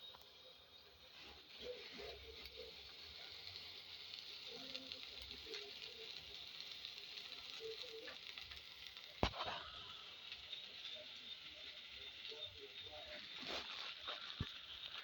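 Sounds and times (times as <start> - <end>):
greens sizzling in hot oil: 0.0 - 15.0.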